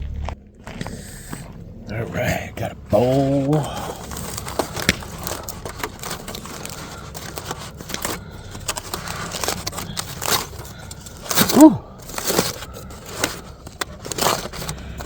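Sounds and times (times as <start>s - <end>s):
aluminium foil crinkling: 2.9s - 15.0s.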